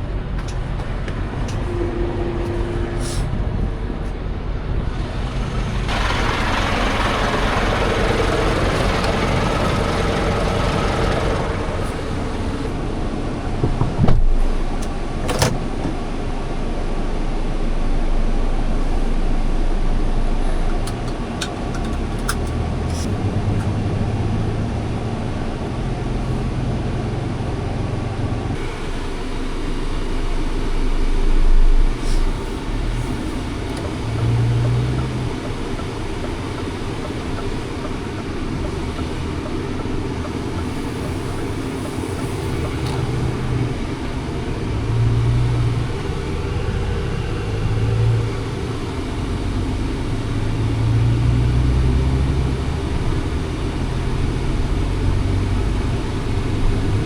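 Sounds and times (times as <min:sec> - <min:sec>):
road noise: 0:00.0 - 0:57.0
truck diesel engine droning: 0:00.0 - 0:57.0.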